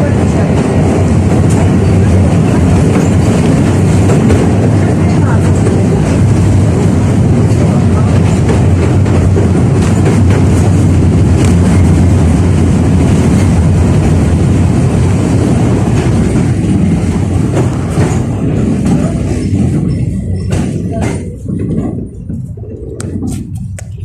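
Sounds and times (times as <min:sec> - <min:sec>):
tram wheels rumbling: 0:00.0 - 0:24.0.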